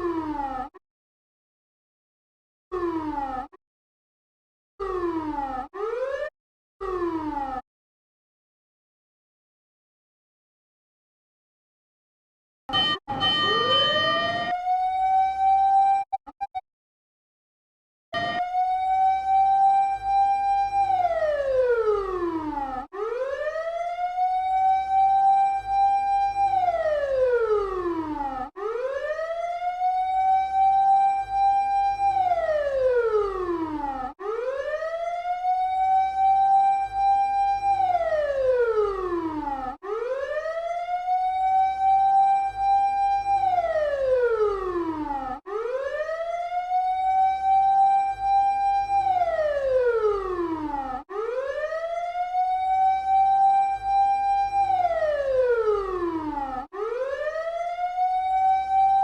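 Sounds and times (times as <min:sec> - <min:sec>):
siren wailing: 0:00.0 - 0:00.7, 0:02.8 - 0:03.6, 0:04.8 - 0:07.6, 0:12.7 - 0:16.2, 0:18.2 - 0:59.0.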